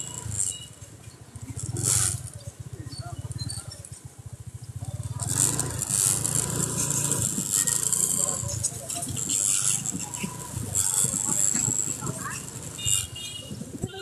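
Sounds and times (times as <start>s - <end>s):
small engine idling: 0.0s - 13.2s.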